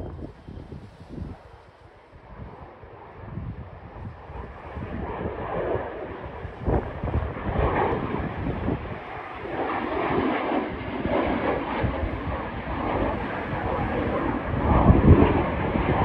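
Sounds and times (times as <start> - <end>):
aircraft engine taking off: 0.0 - 16.0
wind buffeting microphone: 0.0 - 16.0.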